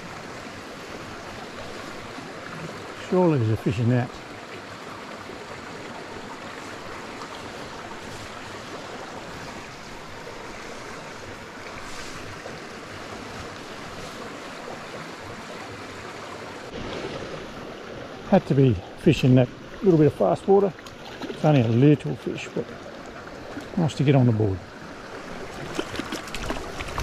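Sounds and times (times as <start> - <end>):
creek water running over rocks: 0.0 - 27.0.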